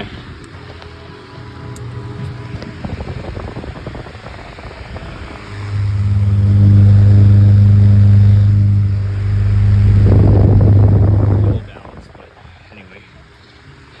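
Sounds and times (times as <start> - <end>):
loud motor hum: 0.0 - 12.1
fan air rushing: 0.0 - 14.0.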